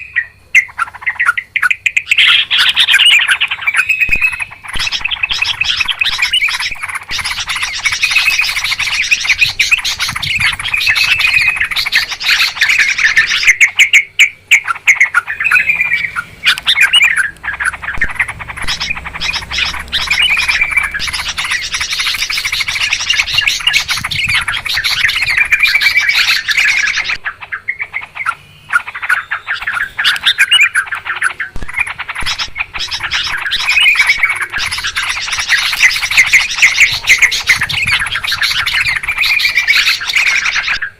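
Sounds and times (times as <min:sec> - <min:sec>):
bulbuls chattering: 0:00.0 - 0:40.9.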